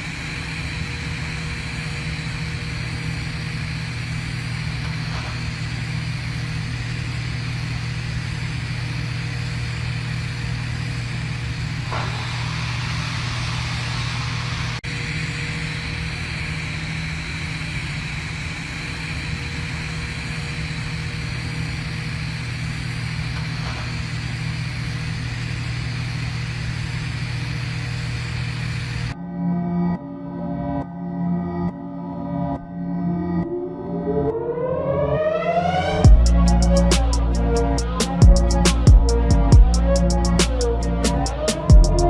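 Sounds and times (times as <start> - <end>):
welding arc buzzing hum: 0.0 - 29.2, 36.0 - 42.0.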